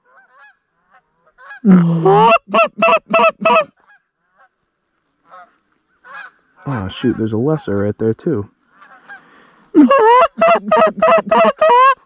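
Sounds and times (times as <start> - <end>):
geese honking: 0.0 - 4.6, 5.2 - 7.8, 8.7 - 12.0.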